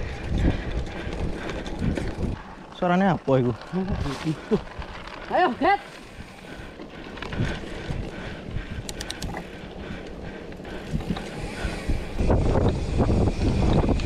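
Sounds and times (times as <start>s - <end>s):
bike tyres rattling on dirt: 0.0s - 14.0s
wind buffeting microphone: 0.0s - 14.0s.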